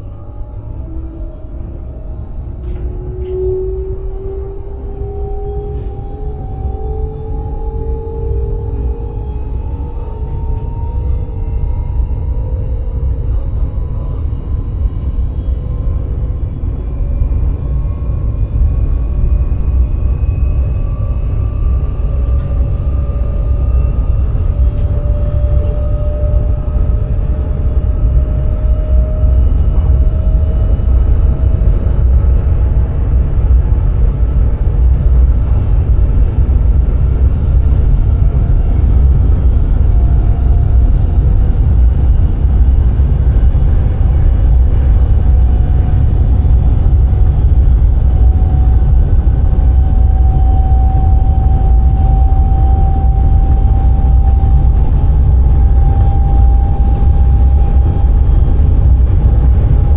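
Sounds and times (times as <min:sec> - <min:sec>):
faint rising whine: 0:00.0 - 0:59.9
train low rumble: 0:00.0 - 0:59.9.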